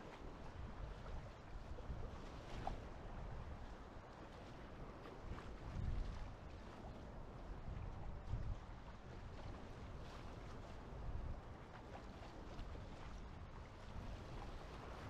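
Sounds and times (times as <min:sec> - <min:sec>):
water splashing and lapping: 0:00.0 - 0:15.0
wind noise on microphone: 0:00.0 - 0:15.0.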